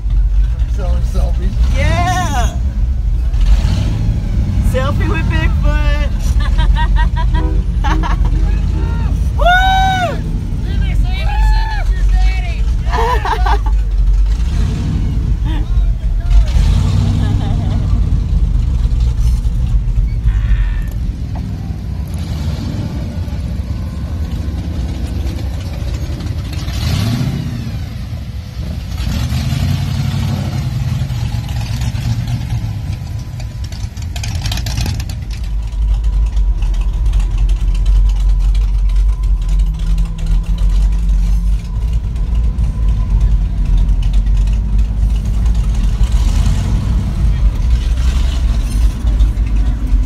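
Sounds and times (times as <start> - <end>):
deep engine rumble: 0.0 - 50.0
truck engine revving: 0.0 - 50.0.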